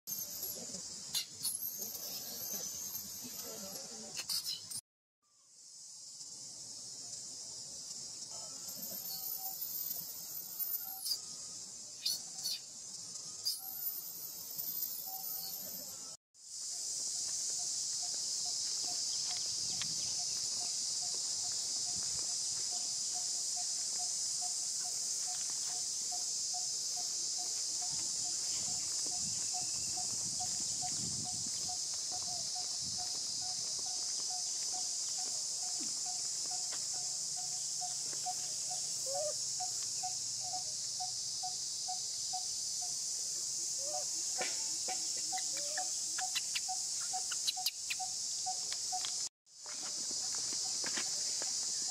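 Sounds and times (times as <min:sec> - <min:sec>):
insects buzzing: 0:05.3 - 0:51.9.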